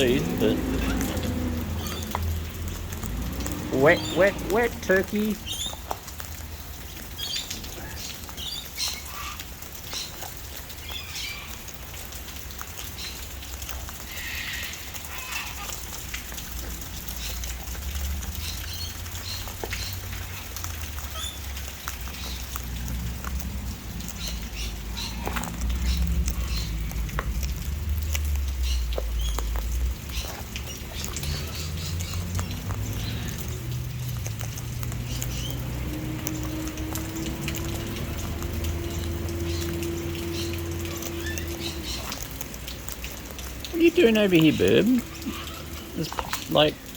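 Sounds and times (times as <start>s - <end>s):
birds pecking at seed: 0.0s - 46.9s
steady rain: 0.0s - 46.9s.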